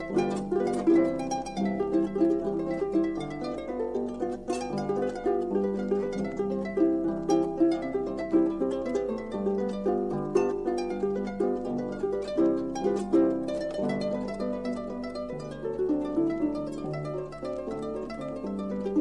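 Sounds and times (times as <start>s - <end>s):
solo harp dance tune: 0.0s - 19.0s.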